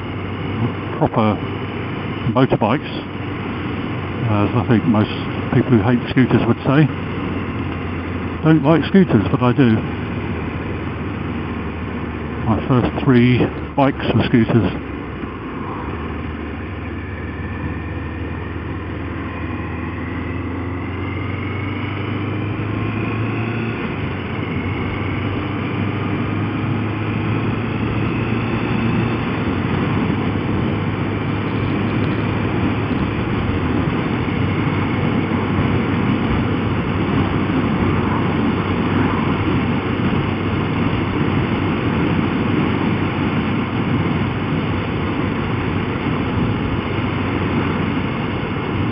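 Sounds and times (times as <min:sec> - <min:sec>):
motorcycle engine accelerating: 0:00.0 - 0:48.9
wind rush on microphone: 0:00.0 - 0:48.9.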